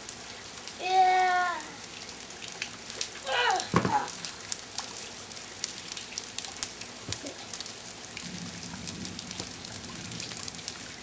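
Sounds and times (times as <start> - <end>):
raindrops ticking nearby: 0.0 - 11.0
steady rain falling: 0.0 - 11.0.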